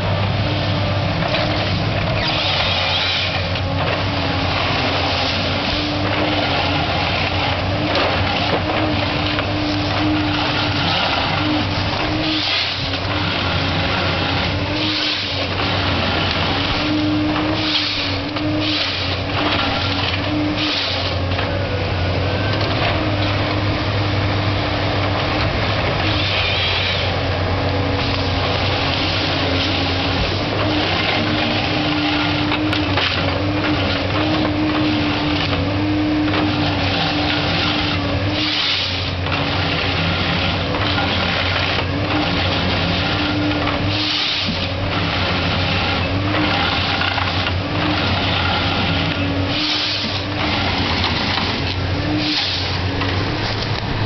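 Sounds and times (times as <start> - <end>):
diesel engine droning: 0.0 - 54.0
hydraulic whine: 0.0 - 54.0.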